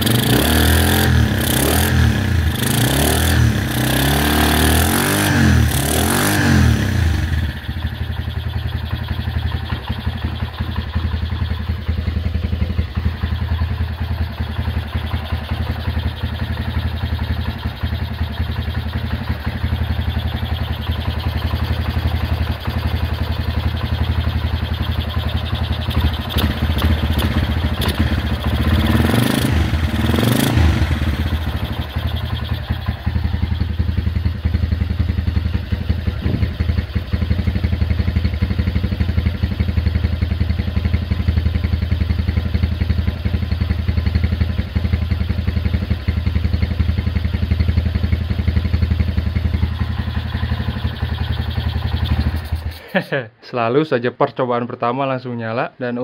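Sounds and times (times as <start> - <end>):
motorcycle engine running: 0.0 - 53.2.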